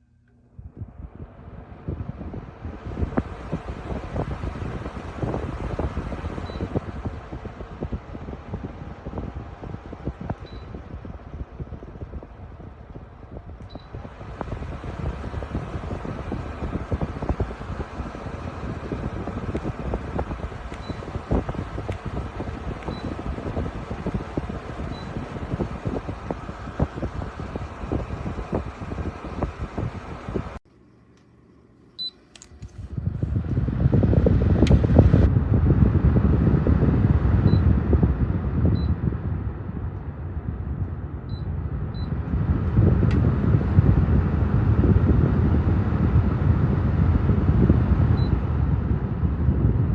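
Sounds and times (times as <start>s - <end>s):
table fan running: 0.0s - 49.9s.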